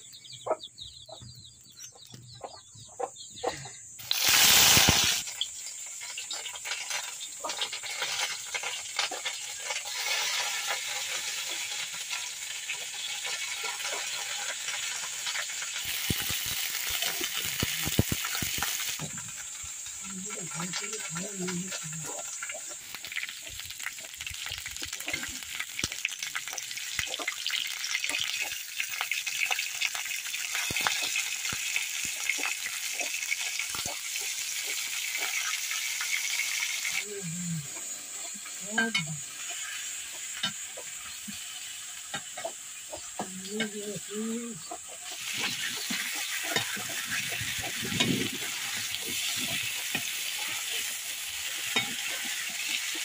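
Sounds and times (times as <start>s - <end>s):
fish sizzling in hot oil: 4.0s - 53.0s.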